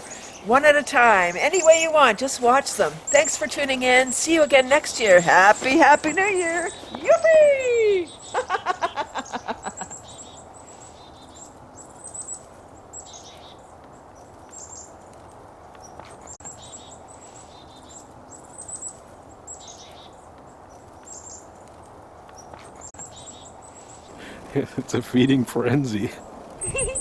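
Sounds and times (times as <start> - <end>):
chickadees calling: 0.0 - 25.2, 26.0 - 27.0
steady background hiss: 0.0 - 27.0.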